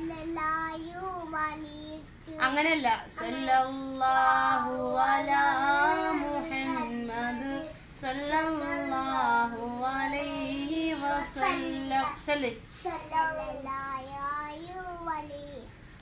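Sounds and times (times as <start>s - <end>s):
girl singing unaccompanied: 0.0s - 15.9s.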